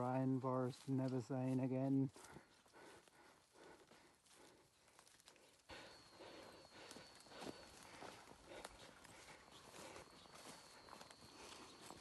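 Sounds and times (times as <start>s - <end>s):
faint footsteps on ground: 0.0s - 12.0s.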